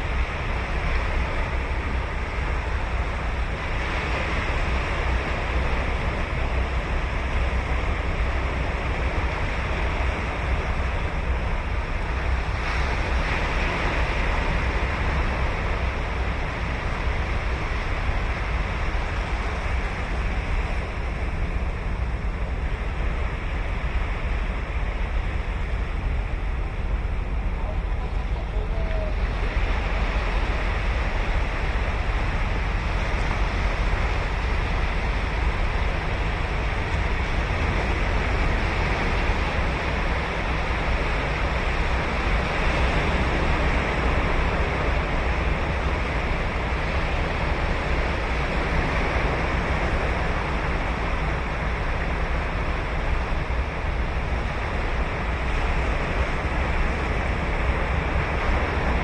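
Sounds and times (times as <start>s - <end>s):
ocean waves washing on beach: 0.0s - 59.0s.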